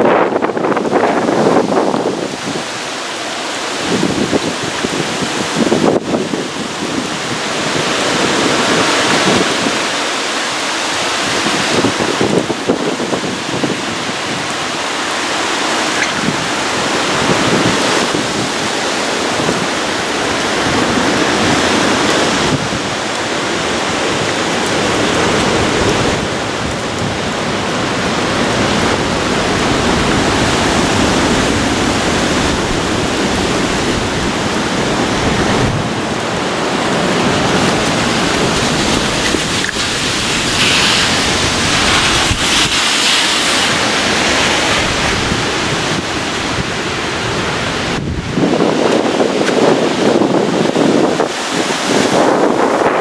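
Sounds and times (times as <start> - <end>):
wind buffeting microphone: 0.0 - 2.9, 3.6 - 10.2, 10.8 - 53.0
rain: 0.0 - 53.0
wind roaring in gusts: 0.0 - 53.0.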